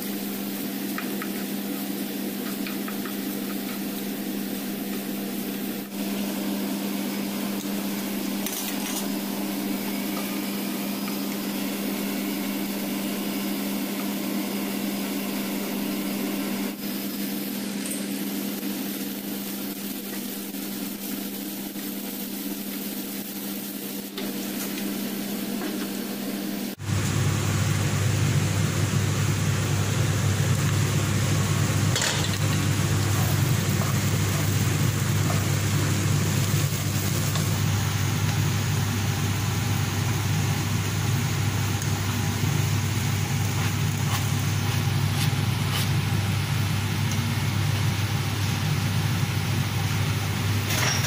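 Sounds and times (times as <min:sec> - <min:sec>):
steady low hum: 0:00.0 - 0:19.7, 0:23.7 - 0:51.0.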